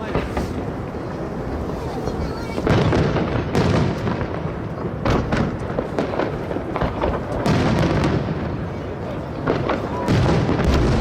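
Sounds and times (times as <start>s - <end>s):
fireworks booming: 0.0s - 11.0s
fireworks crackling: 0.0s - 11.0s.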